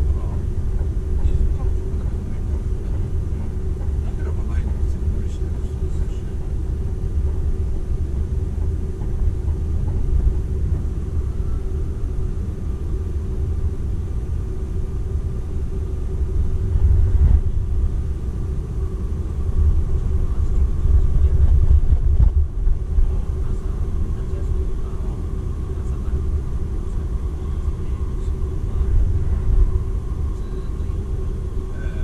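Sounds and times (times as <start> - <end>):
faint steady hum: 0.0 - 32.0
train wheels rumbling on rail: 0.0 - 32.0.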